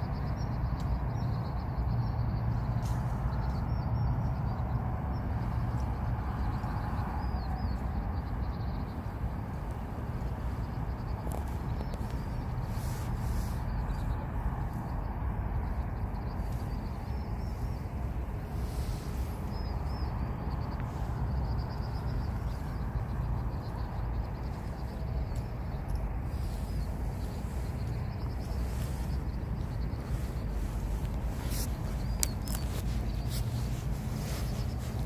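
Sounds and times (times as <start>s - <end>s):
small birds chirping: 0.0s - 35.0s
steady low rumble: 0.0s - 35.0s.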